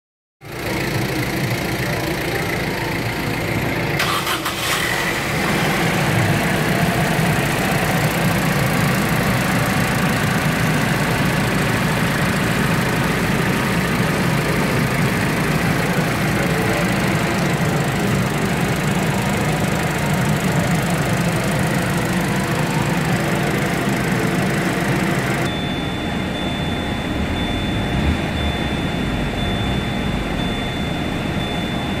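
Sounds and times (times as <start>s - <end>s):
car engine idling: 0.4s - 32.0s.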